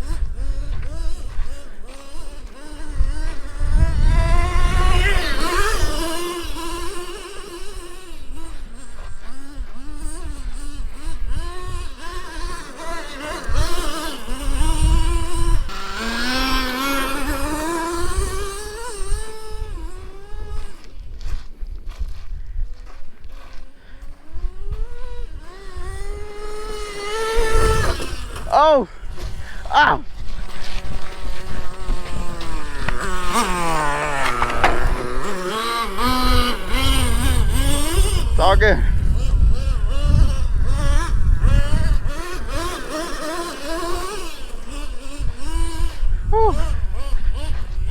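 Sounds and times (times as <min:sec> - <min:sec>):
rc truck engine revving: 0:00.0 - 0:21.6, 0:23.3 - 0:47.9.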